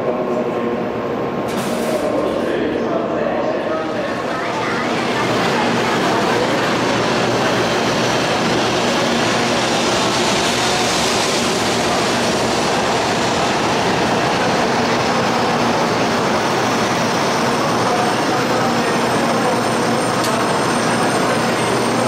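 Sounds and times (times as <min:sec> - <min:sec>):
high-speed train rushing past: 0:00.0 - 0:22.0.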